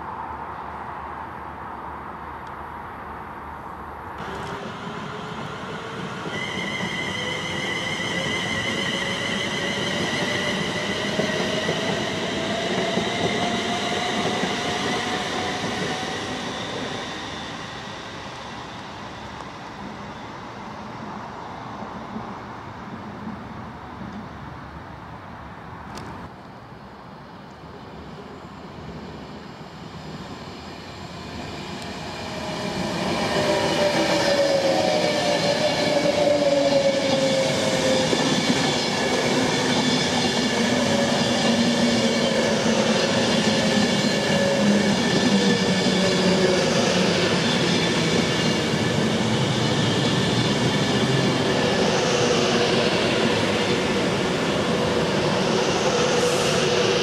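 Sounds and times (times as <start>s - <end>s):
train passing at speed: 0.0s - 57.0s.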